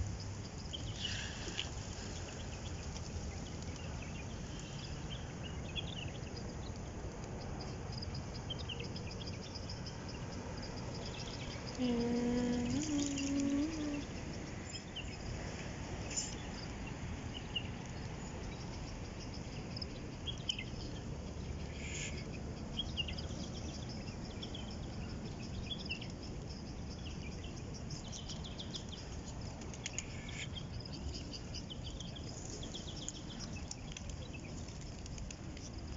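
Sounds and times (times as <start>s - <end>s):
outdoor background noise: 0.0s - 35.9s
small birds chirping: 0.2s - 35.9s.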